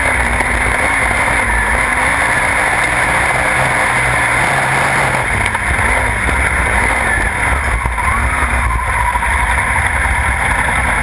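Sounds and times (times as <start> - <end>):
race car engine running: 0.0 - 11.0
wind and track rumble: 0.0 - 11.0.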